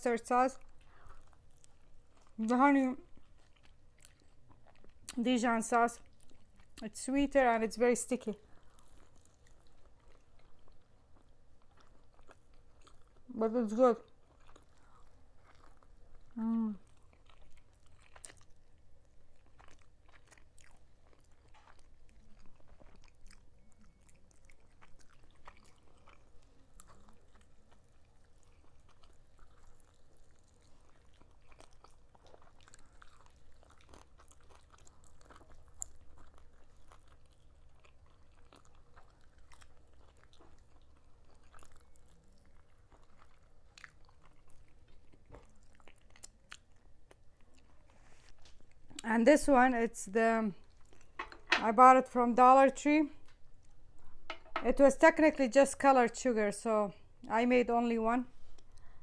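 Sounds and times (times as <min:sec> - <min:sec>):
faint chewing: 0:00.4 - 0:51.6, 0:52.6 - 0:54.9, 0:58.2 - 0:59.0.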